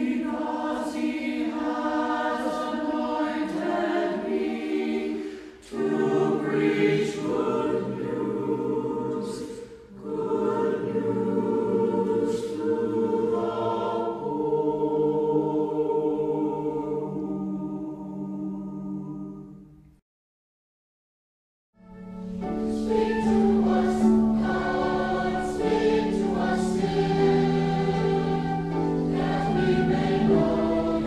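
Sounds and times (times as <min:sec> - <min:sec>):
choir singing held chords: 0:00.0 - 0:19.9, 0:22.2 - 0:31.0.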